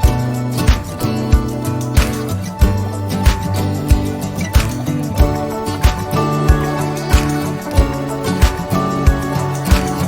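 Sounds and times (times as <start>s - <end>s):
music with a steady low beat: 0.0s - 10.0s.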